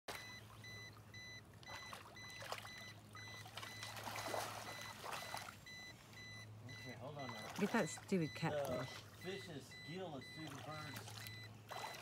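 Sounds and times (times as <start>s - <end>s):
water splashing: 0.1s - 6.2s, 6.8s - 12.0s
high electronic beeps: 0.1s - 12.0s
steady low hum: 0.1s - 12.0s.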